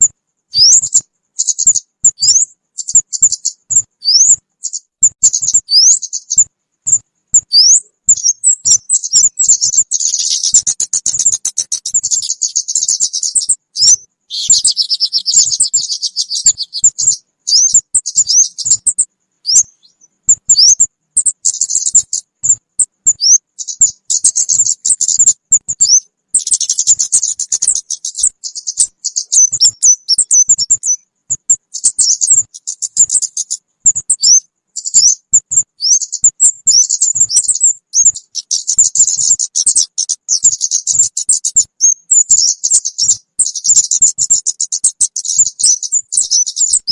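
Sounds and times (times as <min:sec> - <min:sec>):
bird chirping and buzzy trills: 0:00.0 - 0:46.9
rising whistled bird notes: 0:00.5 - 0:46.9.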